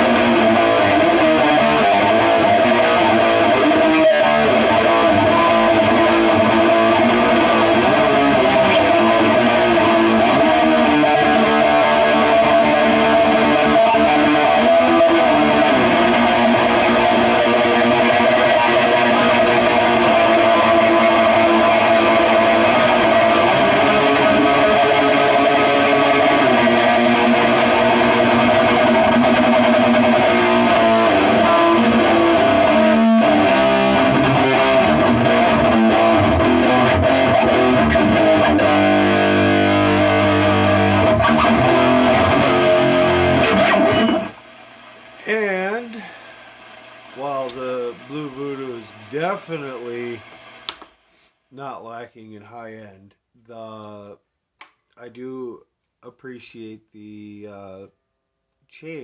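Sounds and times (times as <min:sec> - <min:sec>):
electric guitar chords ringing: 0:00.0 - 0:50.7.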